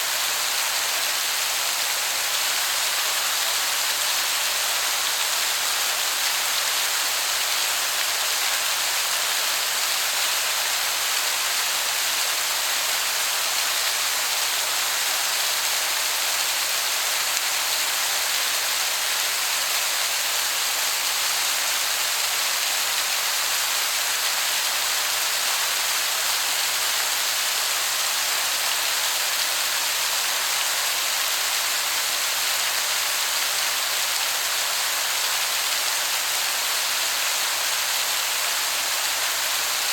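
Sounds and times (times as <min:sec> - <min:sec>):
waterfall hissing: 0:00.0 - 0:39.9.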